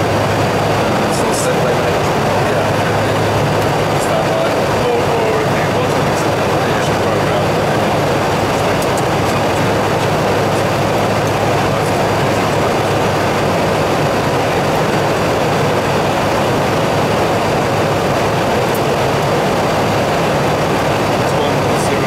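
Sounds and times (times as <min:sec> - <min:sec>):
low constant hum: 0:00.0 - 0:22.0
rush of airflow noise: 0:00.0 - 0:22.0.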